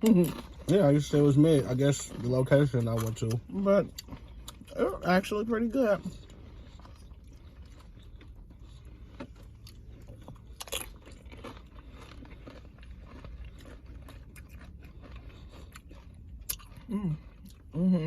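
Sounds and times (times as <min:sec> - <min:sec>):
chewing with crunches: 0:00.0 - 0:18.0.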